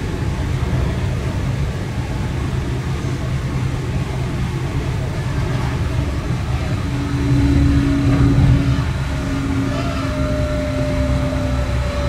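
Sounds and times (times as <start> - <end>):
high steady hum: 0.0 - 12.0
train rumble inside passenger car: 0.0 - 12.0.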